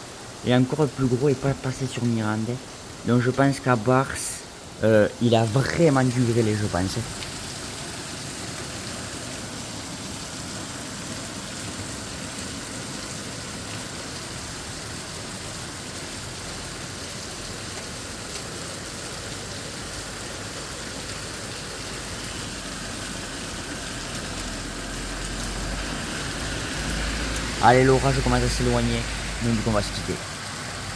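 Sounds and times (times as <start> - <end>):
rain pattering on surfaces: 0.0 - 30.9.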